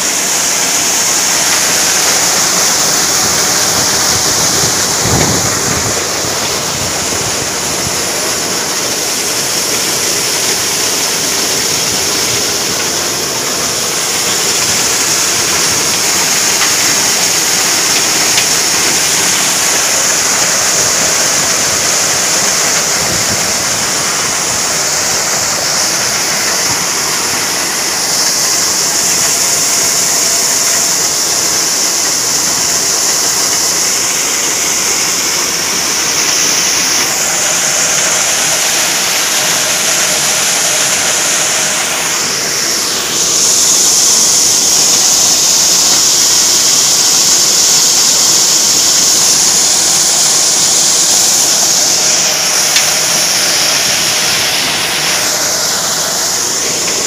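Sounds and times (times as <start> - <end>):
maize thresher running: 0.0 - 57.0.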